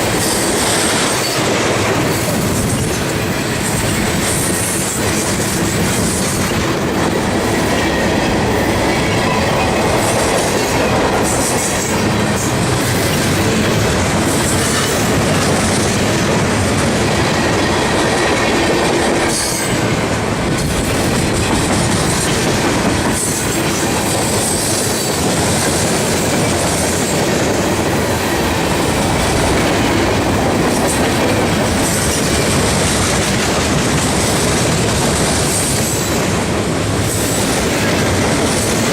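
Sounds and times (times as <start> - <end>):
clacks over rail joints: 0.0 - 38.9
train wheels rumbling on rail: 0.0 - 38.9.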